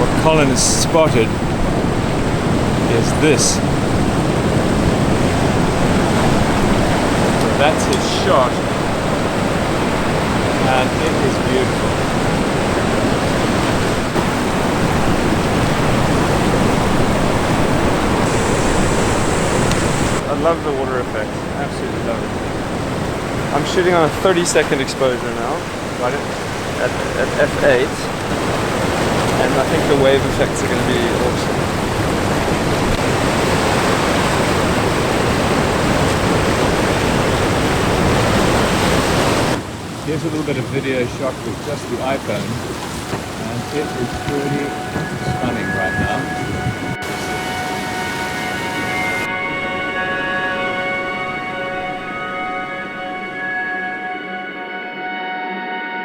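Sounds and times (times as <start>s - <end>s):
surf washing onto rocky shore: 0.0s - 49.2s
ocean waves breaking: 0.0s - 55.9s.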